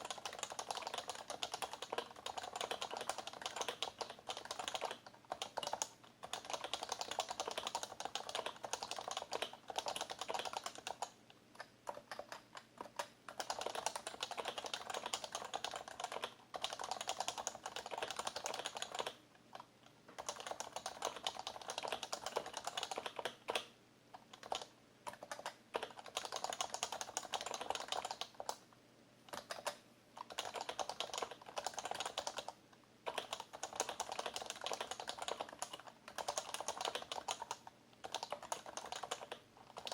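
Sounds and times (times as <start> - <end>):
fast typing on keyboard: 0.0 - 28.6, 29.3 - 39.9.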